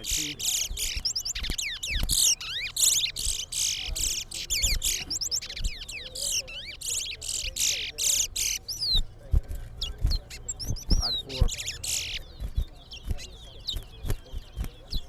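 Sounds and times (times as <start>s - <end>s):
finches singing: 0.0s - 15.0s.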